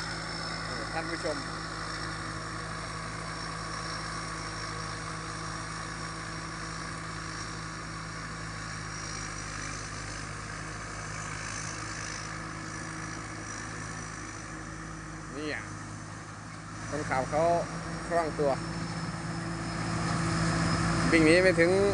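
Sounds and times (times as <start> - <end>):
combine harvester engine drone: 0.0 - 21.9.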